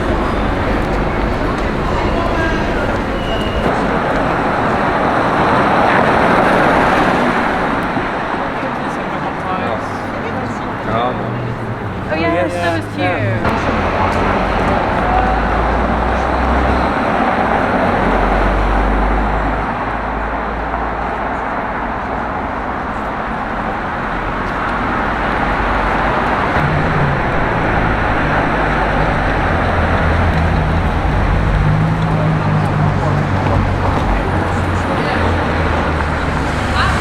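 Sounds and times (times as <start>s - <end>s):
low vehicle engine: 0.0s - 37.0s
road noise of passing cars: 0.0s - 37.0s.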